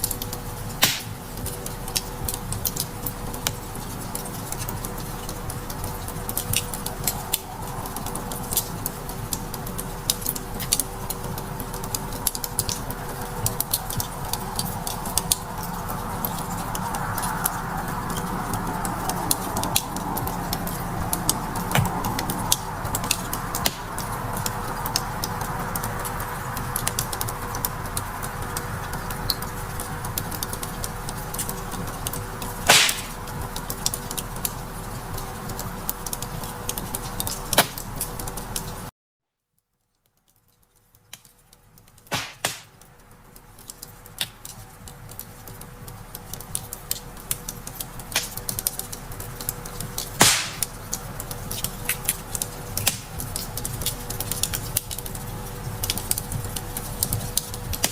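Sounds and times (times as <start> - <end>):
wood fire crackling: 0.0 - 38.9, 39.9 - 57.9.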